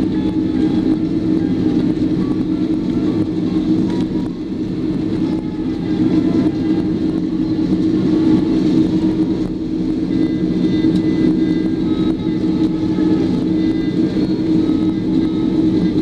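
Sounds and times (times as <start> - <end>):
faint high whining tones: 0.0 - 16.0
jet engines humming in cabin: 0.0 - 16.0.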